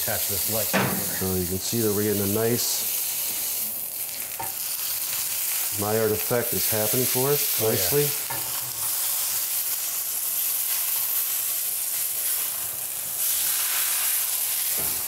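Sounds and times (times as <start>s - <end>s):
steak sizzling in a skillet: 0.0s - 15.0s.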